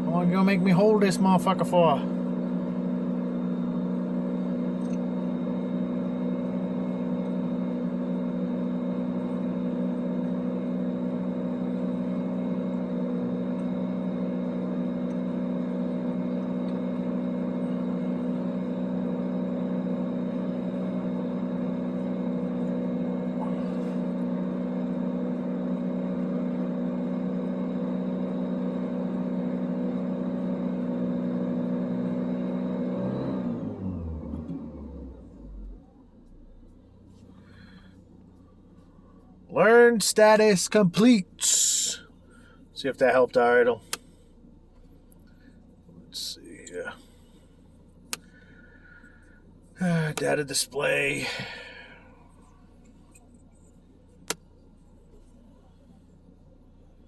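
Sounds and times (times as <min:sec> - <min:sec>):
engine at high rpm: 0:00.0 - 0:57.0.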